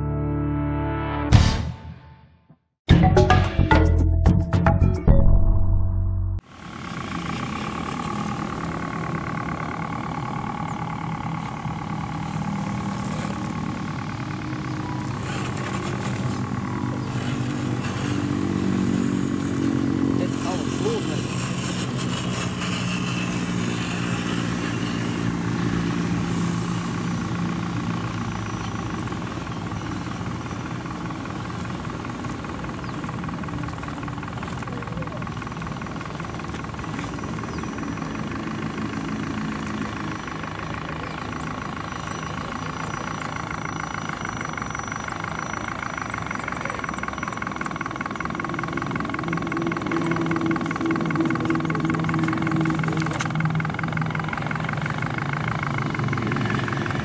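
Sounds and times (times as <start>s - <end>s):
low motor drone: 3.4s - 57.0s.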